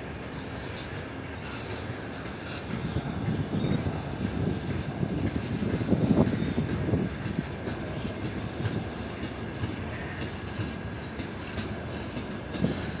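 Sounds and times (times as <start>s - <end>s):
train wheels rumbling on rails: 0.0s - 13.0s
wagons clacking and rattling: 0.7s - 13.0s.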